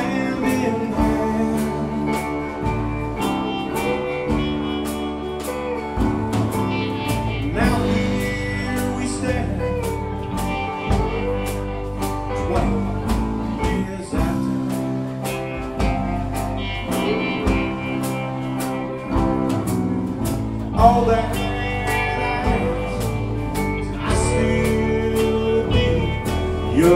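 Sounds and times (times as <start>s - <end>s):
acoustic guitar: 0.0s - 26.9s
bass guitar: 0.0s - 26.9s
drum kit beat: 0.0s - 26.9s
electric guitars: 0.0s - 26.9s.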